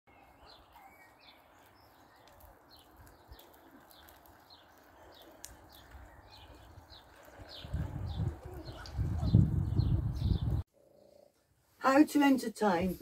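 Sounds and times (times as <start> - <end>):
small bird chirping: 0.1 - 11.3.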